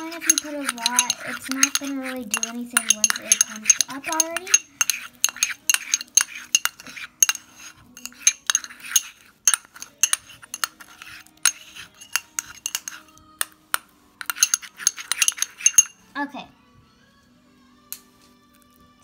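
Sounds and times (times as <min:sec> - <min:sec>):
metal spoon clinking against bowl: 0:00.0 - 0:16.1.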